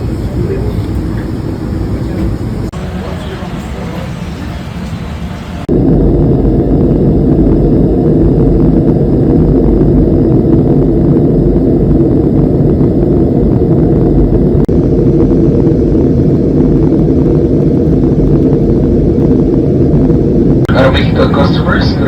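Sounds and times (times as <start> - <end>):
aircraft cabin engine and airflow noise: 0.0 - 22.0.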